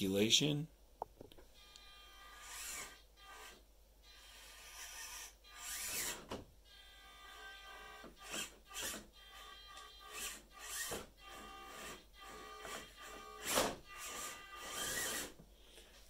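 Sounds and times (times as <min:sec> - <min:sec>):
electric motor whirring: 0:01.6 - 0:15.4.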